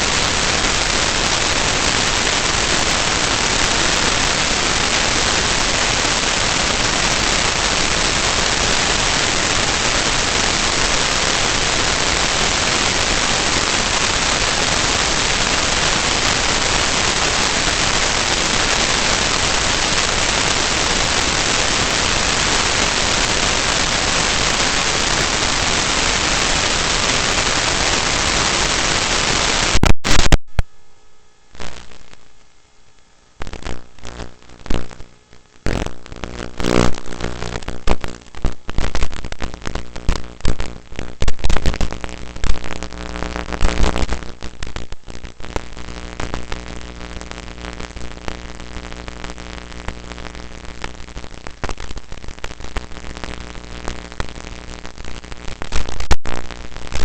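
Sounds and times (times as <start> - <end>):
sharp crackle: 0.0 - 30.8, 31.5 - 57.0
static hiss: 0.0 - 57.0.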